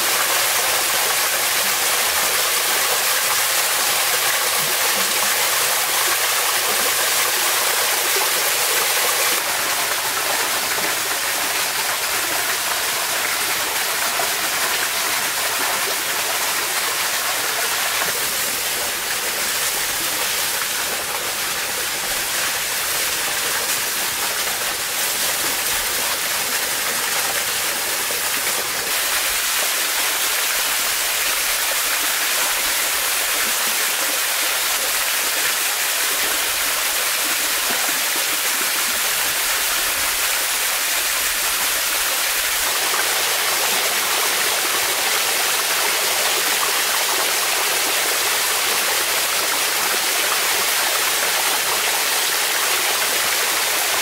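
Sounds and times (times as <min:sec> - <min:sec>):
waterfall pouring into pool: 0:00.0 - 0:54.0.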